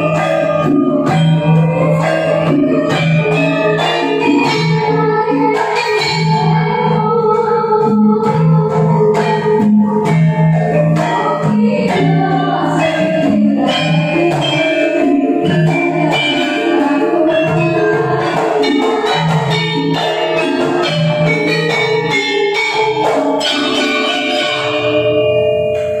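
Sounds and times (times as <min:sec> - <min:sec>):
woman singing: 0:00.0 - 0:22.2
metallophones and gongs ringing: 0:00.0 - 0:26.0.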